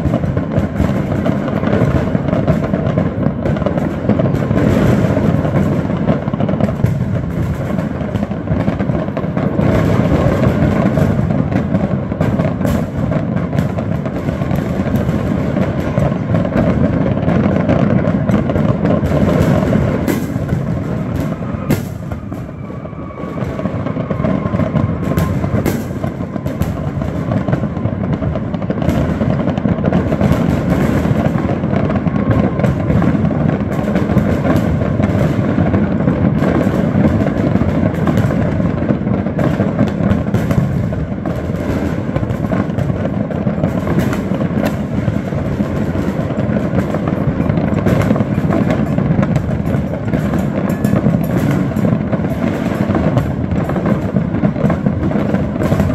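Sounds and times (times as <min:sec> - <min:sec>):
fireworks banging and crackling: 0:00.0 - 0:55.9.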